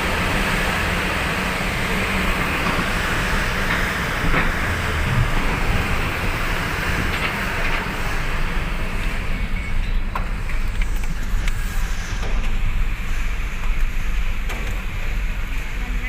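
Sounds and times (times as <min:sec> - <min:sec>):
vehicles rumbling off ferry: 0:00.0 - 0:16.0.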